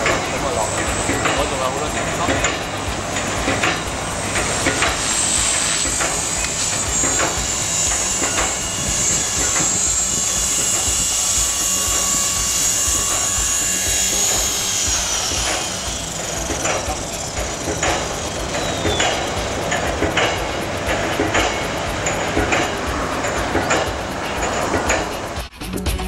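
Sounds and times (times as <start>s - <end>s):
rc helicopter motor whine: 0.0s - 25.5s
spinning rotors: 0.0s - 25.6s.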